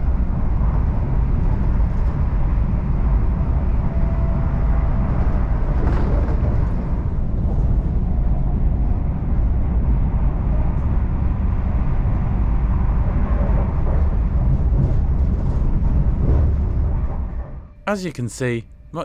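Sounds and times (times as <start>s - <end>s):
wheels rumbling on rail: 0.0s - 17.8s.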